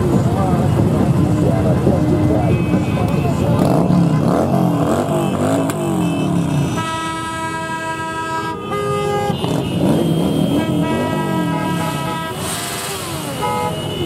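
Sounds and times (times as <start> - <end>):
motorcycle engines revving: 0.0 - 14.0
horns honking: 2.0 - 14.0.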